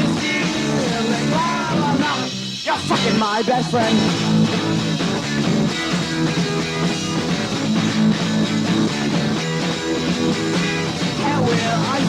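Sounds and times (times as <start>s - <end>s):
punk rock band playing: 0.0s - 12.0s.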